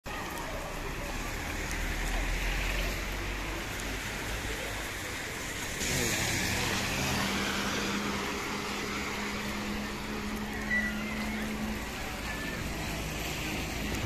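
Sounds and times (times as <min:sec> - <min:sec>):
rain on wet street: 0:00.0 - 0:14.0
car tyres hissing on wet asphalt: 0:00.1 - 0:14.0.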